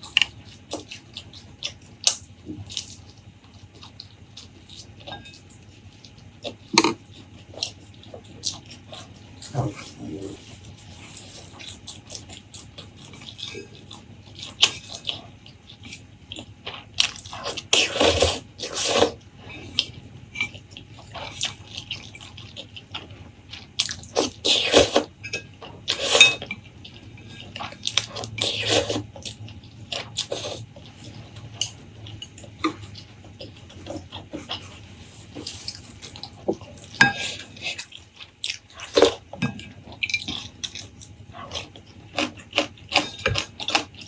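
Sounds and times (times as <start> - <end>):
person chewing: 0.0 - 44.0.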